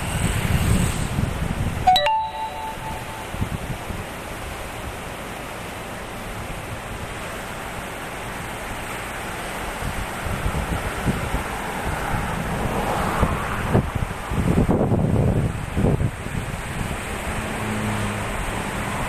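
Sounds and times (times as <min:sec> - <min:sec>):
sea surf: 0:00.0 - 0:19.0
wind: 0:00.0 - 0:19.0.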